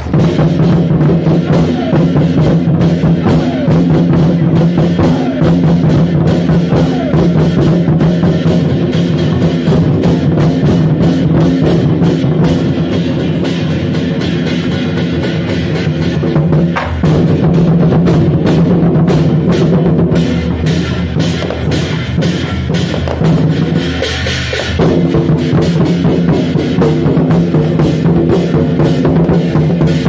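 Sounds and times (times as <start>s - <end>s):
rapid dense drumming: 0.0s - 30.0s.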